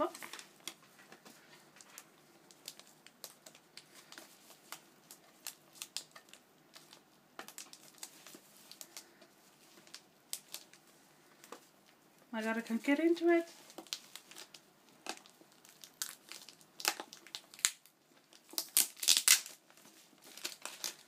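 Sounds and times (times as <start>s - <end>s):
gift wrapping crinkling: 0.0s - 21.0s.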